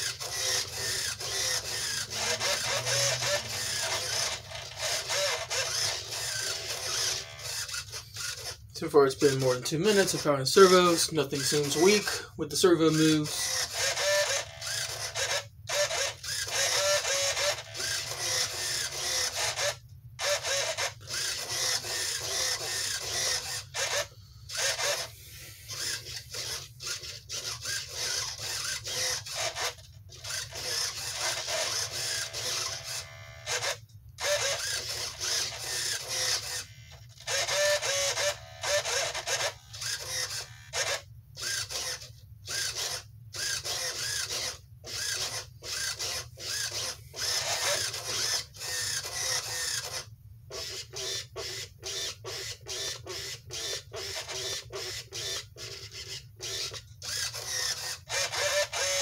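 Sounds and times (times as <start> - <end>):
servo motor whirring: 0.0 - 8.6, 9.2 - 59.0.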